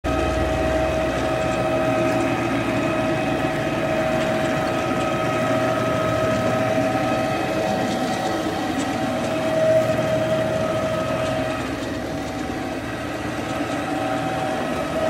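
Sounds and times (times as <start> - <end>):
carpet cleaning machine running: 0.0 - 15.0.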